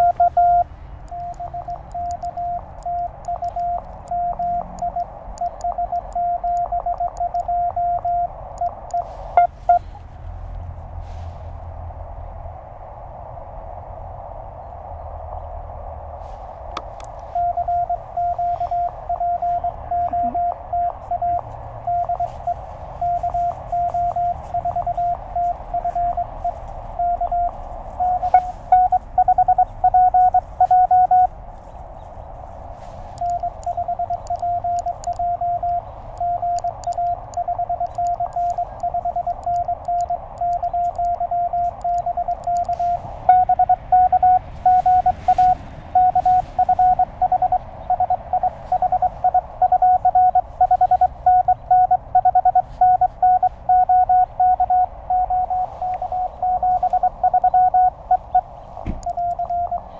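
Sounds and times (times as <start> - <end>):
higher morse code signal: 0.0 - 10.0, 16.2 - 59.9
morse code tone: 0.0 - 10.0, 16.8 - 59.9
radio band noise hiss: 0.0 - 59.9.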